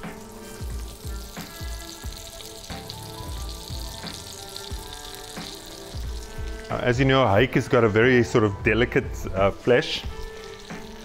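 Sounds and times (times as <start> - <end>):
fish sizzling in frying pan: 0.0 - 8.3, 9.2 - 11.0
background music with beat: 0.0 - 11.0.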